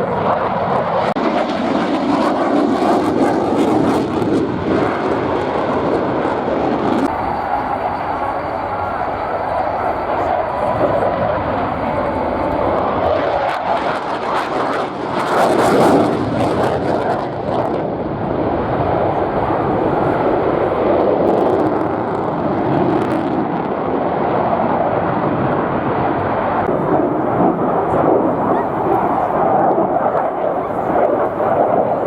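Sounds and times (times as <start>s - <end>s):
fighter jet flying past: 0.0s - 32.0s
sharp crackling of jet engine: 0.0s - 32.0s.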